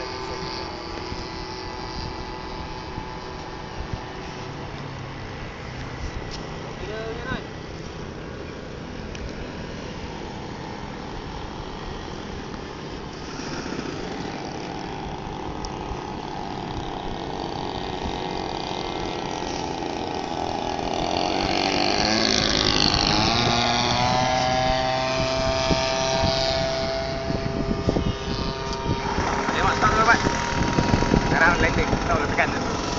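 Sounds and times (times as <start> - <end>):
model plane engine flying by: 0.0 - 32.9.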